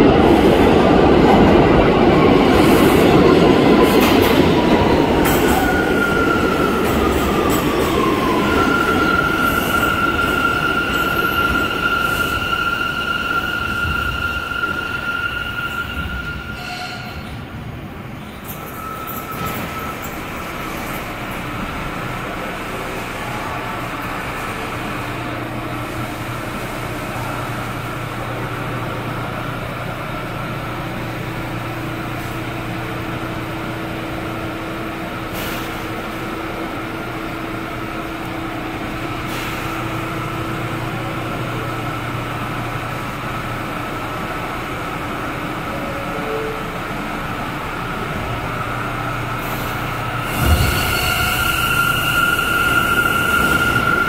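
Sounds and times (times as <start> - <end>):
subway train equipment humming: 0.0 - 54.0.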